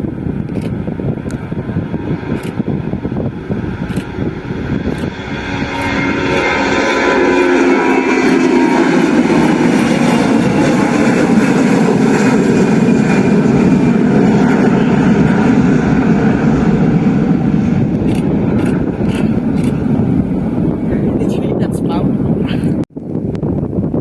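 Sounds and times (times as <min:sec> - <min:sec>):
high engine whine: 0:00.0 - 0:22.5
jet engines roaring: 0:00.0 - 0:22.8
wind buffeting microphone: 0:00.0 - 0:24.0.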